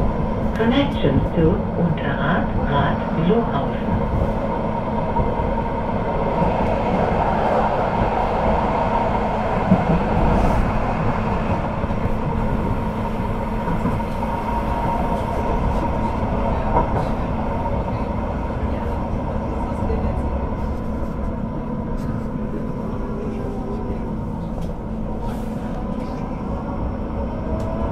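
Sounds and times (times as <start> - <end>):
wheels rumbling on rail: 0.0 - 27.9.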